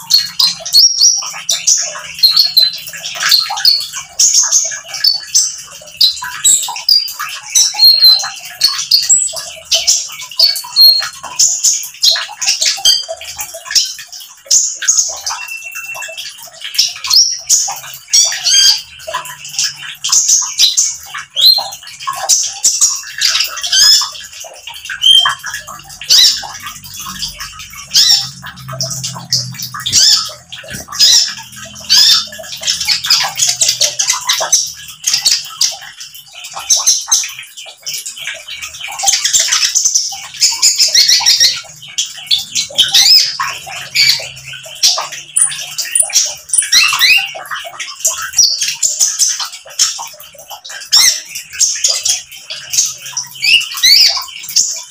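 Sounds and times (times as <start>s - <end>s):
bird singing rapid chirps: 0.0s - 54.9s
trickling water: 0.0s - 54.9s.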